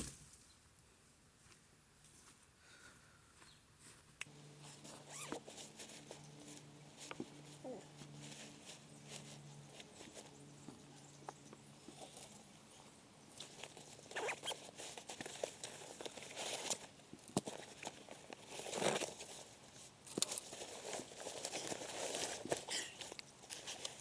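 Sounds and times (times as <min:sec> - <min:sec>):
rustling and crinkling: 0:03.8 - 0:24.0.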